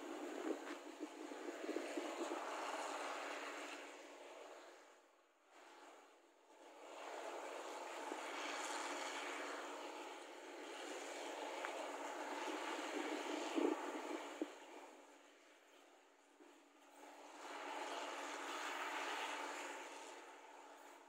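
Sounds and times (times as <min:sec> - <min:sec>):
combine harvester engine drone: 0:00.0 - 0:21.0.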